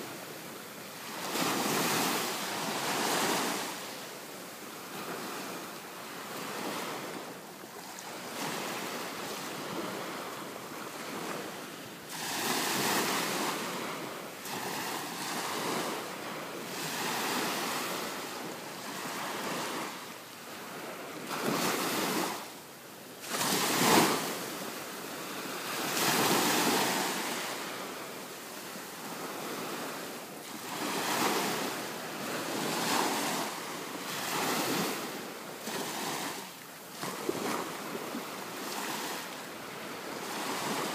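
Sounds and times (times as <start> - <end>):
ocean waves washing onto beach: 0.0 - 40.9.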